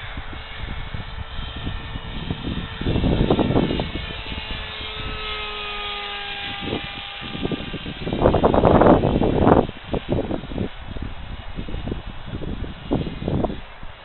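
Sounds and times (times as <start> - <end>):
model plane motor whining: 0.0 - 14.0
wind buffeting microphone: 0.0 - 14.0.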